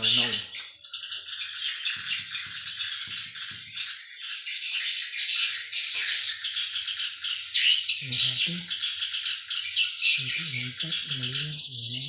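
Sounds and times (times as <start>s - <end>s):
swiftlets chirping and twittering: 0.0s - 12.0s.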